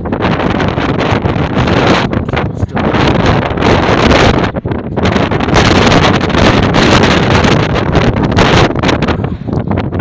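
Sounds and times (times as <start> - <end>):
blizzard wind buffeting microphone: 0.0 - 10.0.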